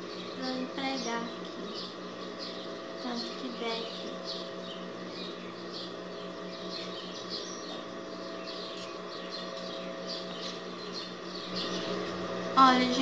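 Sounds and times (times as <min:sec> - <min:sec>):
small birds chirping: 0:00.0 - 0:13.0
steady electric hum: 0:00.0 - 0:13.0.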